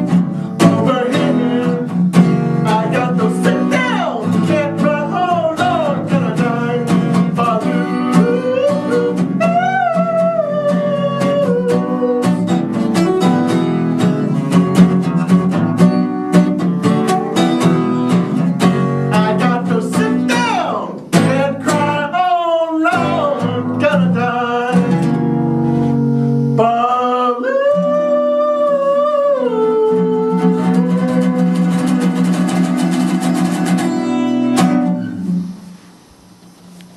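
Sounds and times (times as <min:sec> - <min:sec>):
person singing: 0:00.0 - 0:15.6, 0:19.0 - 0:25.3, 0:26.6 - 0:35.1
acoustic guitar strumming: 0:00.0 - 0:36.9.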